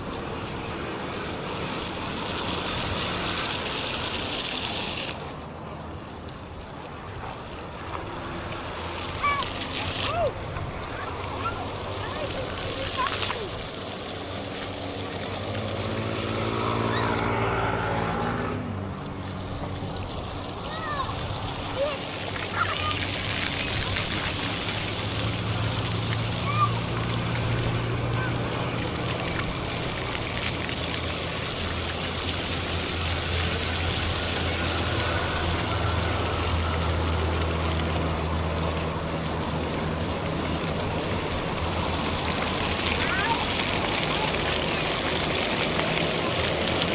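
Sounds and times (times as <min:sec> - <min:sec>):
constant rushing noise: 0:00.0 - 0:46.9
engine running: 0:00.0 - 0:46.9.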